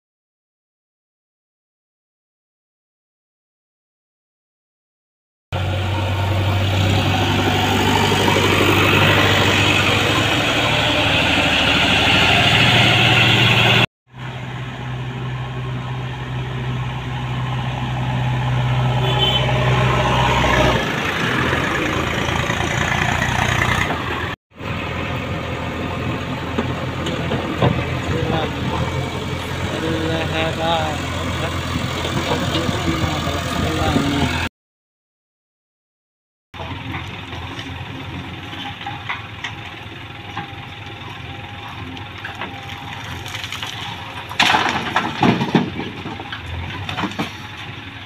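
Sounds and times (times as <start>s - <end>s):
backhoe loader engine: 5.5s - 34.5s, 36.6s - 48.0s
tractor engine running: 5.6s - 34.5s, 36.6s - 48.0s.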